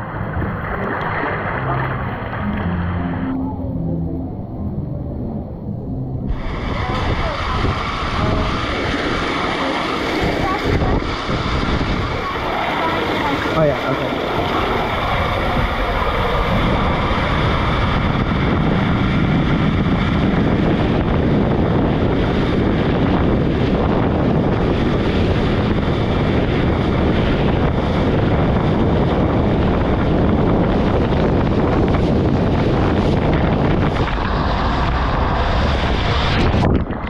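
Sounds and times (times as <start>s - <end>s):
water rushing through slide tube: 0.0s - 3.4s, 6.2s - 37.0s.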